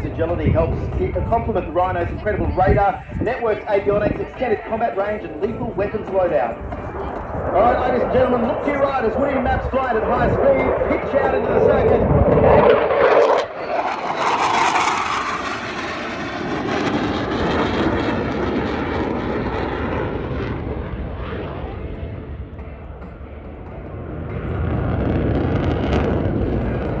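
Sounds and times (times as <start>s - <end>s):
fighter jets passing at high speed: 0.0s - 27.0s.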